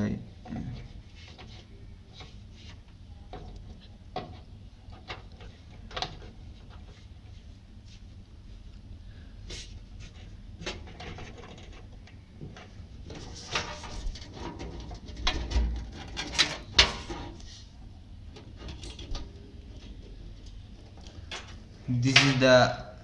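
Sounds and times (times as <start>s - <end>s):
cables rustling: 0.7s - 22.6s.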